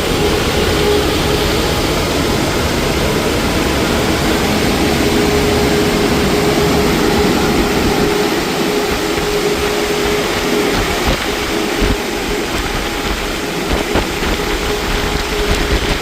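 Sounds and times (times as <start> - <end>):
steady machine whine: 0.0 - 16.0.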